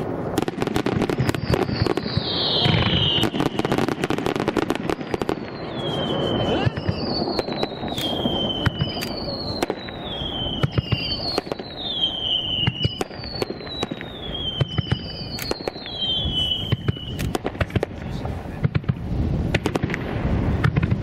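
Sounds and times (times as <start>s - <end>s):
falling firework whistle: 0.0s - 17.4s
fireworks bangs and crackles: 0.0s - 21.0s.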